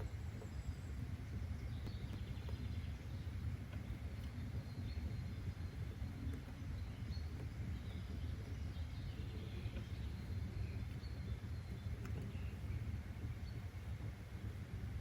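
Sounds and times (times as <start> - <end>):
faint bird chirps: 0.0 - 14.8
low rumble: 0.0 - 15.0.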